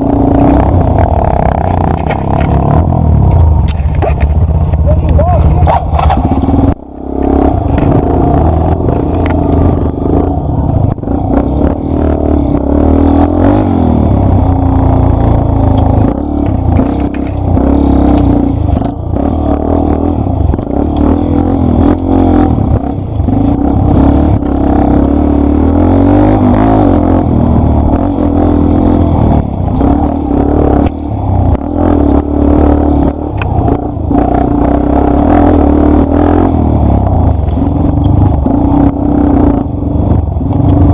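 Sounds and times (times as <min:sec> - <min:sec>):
clattering over rough trail: 0:00.0 - 0:40.9
motorcycle engine running: 0:00.0 - 0:40.9.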